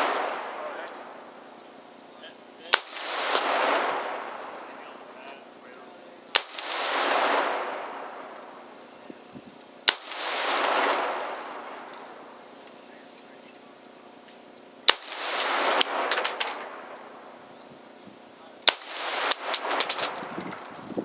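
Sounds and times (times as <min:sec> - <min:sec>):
rifle shots: 0:00.0 - 0:20.7.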